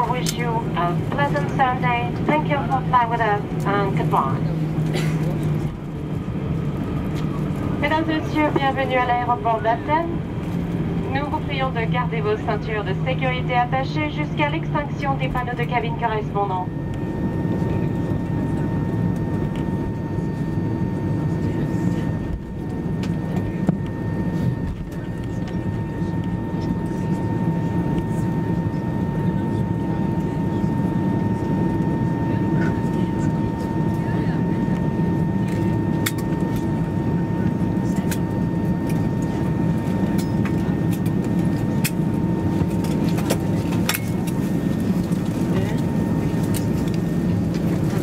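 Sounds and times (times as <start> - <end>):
aircraft cabin engine hum: 0.0 - 48.0.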